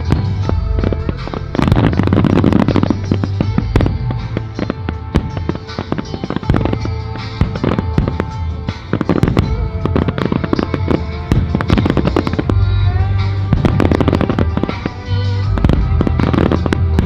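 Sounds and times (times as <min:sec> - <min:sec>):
firework bursts and crackling: 0:00.0 - 0:17.0
low firework booms: 0:00.0 - 0:17.0
music: 0:00.0 - 0:17.0.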